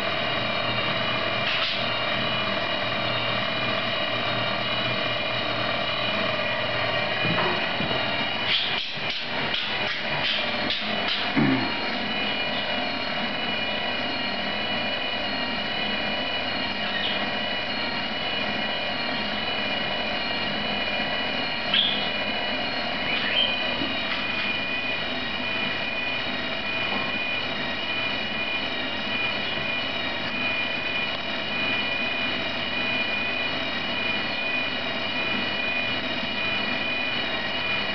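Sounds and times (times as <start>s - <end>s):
propeller whine and whirr: 0.0s - 37.9s.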